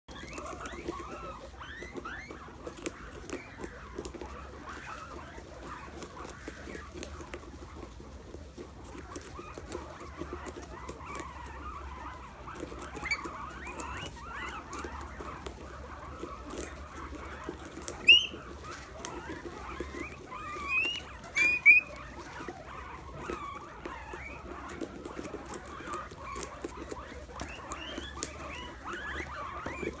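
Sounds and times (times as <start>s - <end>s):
guinea pigs munching pumpkin: 0.0s - 30.0s
guinea pigs squeaking: 0.0s - 30.0s.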